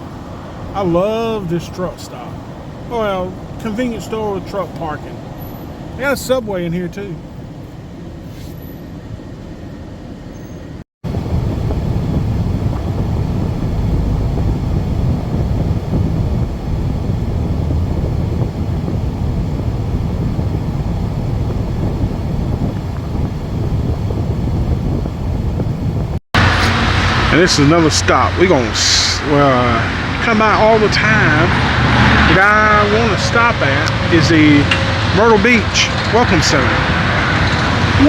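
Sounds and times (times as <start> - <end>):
road noise of moving van: 0.0 - 38.0.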